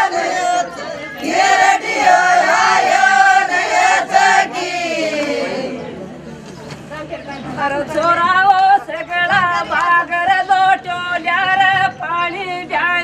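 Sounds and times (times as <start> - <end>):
women singing in unison: 0.0 - 5.8, 7.7 - 13.0.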